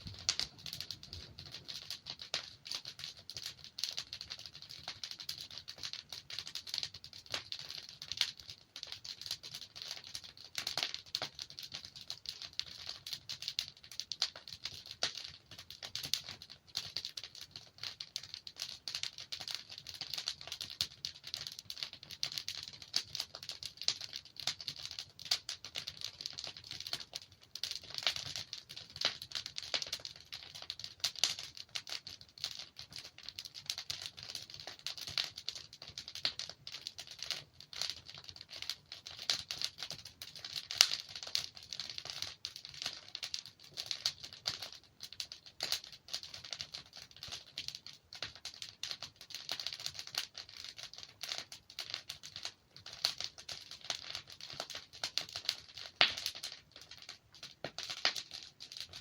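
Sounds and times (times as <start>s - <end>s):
logs crackling in a fireplace: 0.0s - 59.0s.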